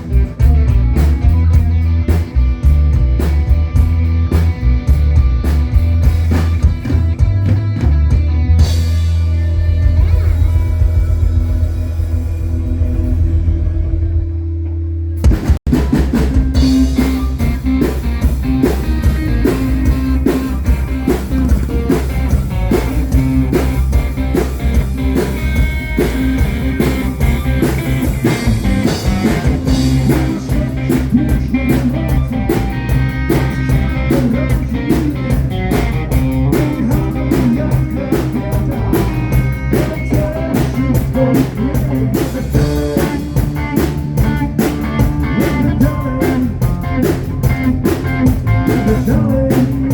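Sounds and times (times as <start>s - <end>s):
blues-rock band playing: 0.0s - 49.9s
electric guitar: 0.0s - 49.9s.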